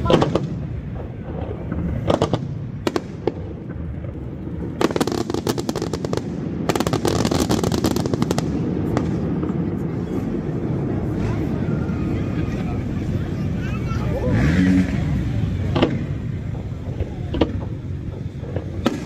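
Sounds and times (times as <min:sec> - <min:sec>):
distant firework bangs: 0:00.0 - 0:13.5, 0:14.5 - 0:19.0
steady low rumble: 0:00.0 - 0:19.0.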